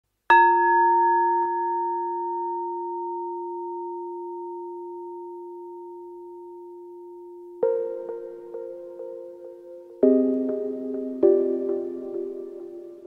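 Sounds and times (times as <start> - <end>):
bell-like tone ringing: 0.3 - 13.0.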